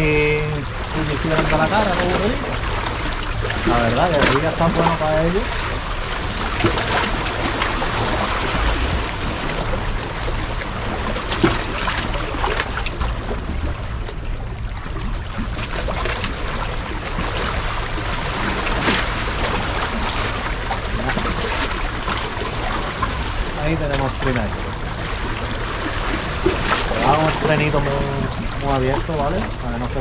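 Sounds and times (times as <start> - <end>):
seawater lapping at shore: 0.0 - 30.0.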